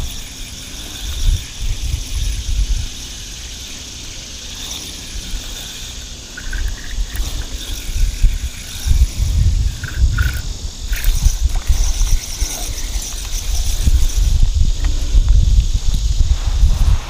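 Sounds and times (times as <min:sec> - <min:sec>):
high insect chirring: 0:00.0 - 0:17.0
wind buffeting microphone: 0:00.0 - 0:17.0.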